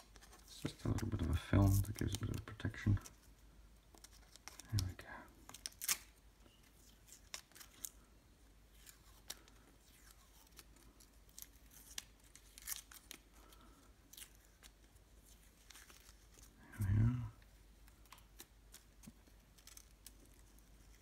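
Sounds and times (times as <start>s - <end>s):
plastic film peeling crackles: 0.0s - 8.1s, 8.7s - 21.0s.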